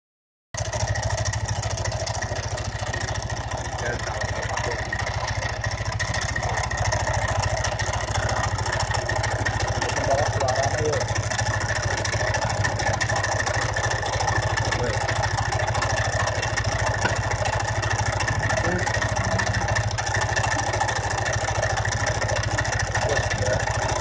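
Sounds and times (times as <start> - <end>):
engine idling with pulsing beat: 0.6 - 24.0.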